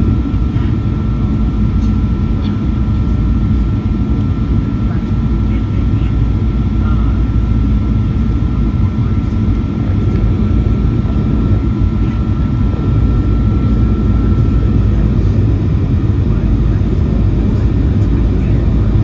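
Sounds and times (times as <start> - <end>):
aircraft cabin engine rumble: 0.0 - 19.0
thin steady whine: 0.0 - 19.0.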